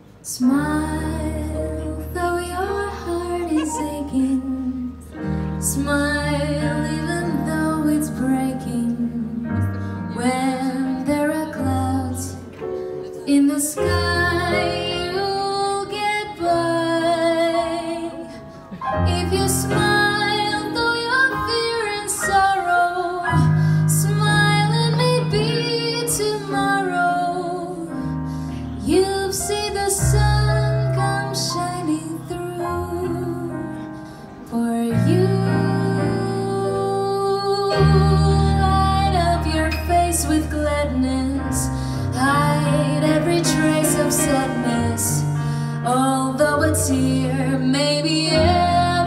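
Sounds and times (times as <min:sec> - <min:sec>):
piano: 0:00.0 - 0:49.0
woman singing jazz: 0:00.2 - 0:49.0.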